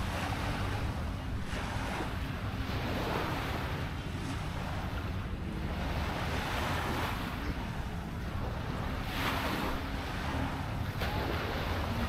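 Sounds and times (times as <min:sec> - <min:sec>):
waves washing onto beach: 0:00.0 - 0:12.0
wind rumble on microphone: 0:00.0 - 0:12.0.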